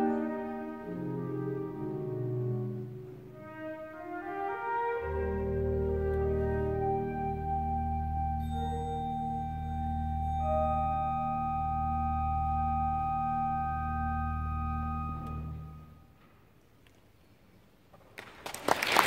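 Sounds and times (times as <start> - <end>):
pipe organ chord: 0.0 - 16.1
wind instrument solo: 0.0 - 16.1.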